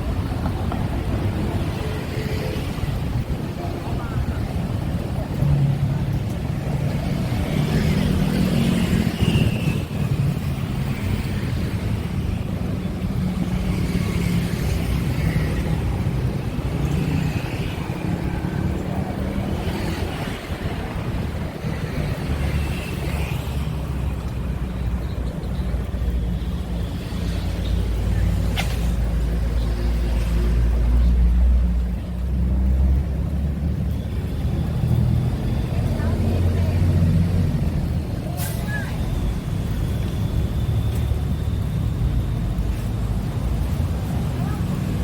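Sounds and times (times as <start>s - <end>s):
traffic engine rumble: 0.0s - 45.0s.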